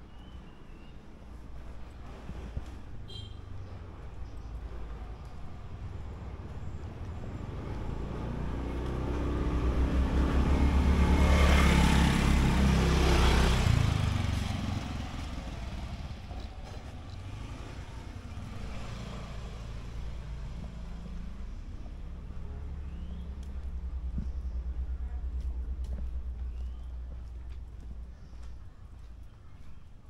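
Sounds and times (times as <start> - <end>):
vehicle passing by: 4.6 - 29.0.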